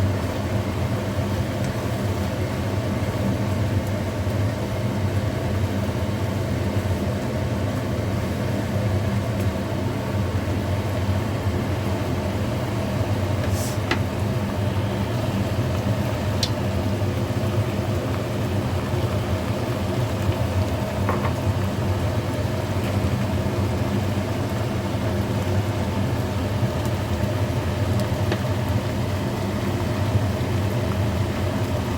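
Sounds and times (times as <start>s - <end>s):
machine hum with hiss: 0.0s - 31.9s.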